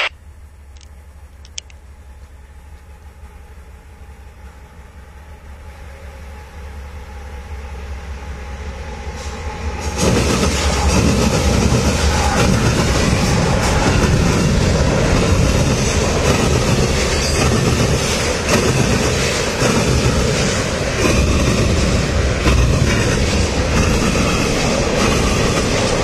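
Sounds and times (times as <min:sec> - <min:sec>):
low train rumble: 0:00.0 - 0:26.0
train passing: 0:00.0 - 0:26.0.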